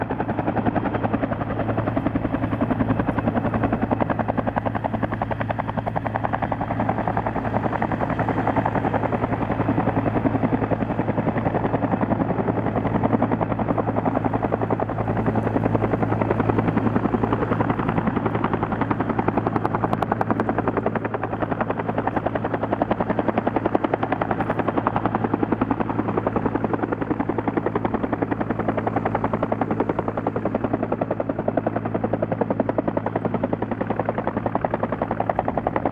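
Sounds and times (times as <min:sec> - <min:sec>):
helicopter engine hum: 0:00.0 - 0:35.9
helicopter rotor beating: 0:00.0 - 0:35.9.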